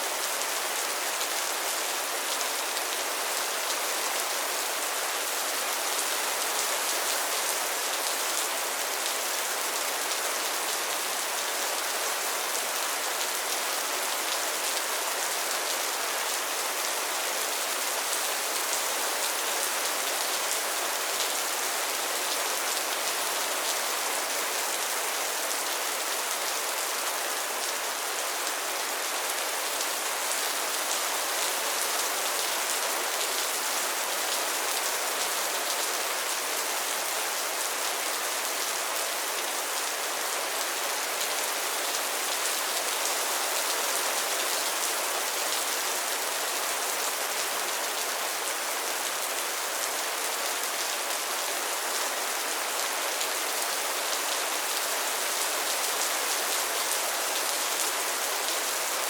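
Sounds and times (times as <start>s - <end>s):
rain falling on pond water: 0.0s - 59.0s.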